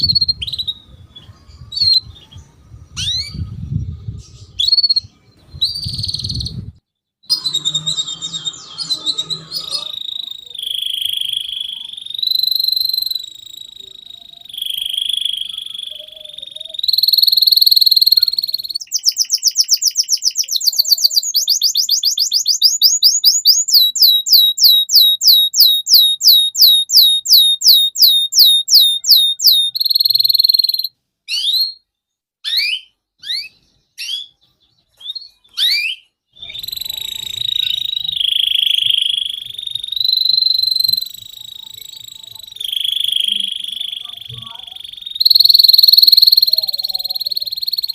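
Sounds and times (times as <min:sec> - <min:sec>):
canary singing: 0:00.0 - 0:03.5, 0:04.2 - 0:06.7, 0:07.3 - 0:47.9.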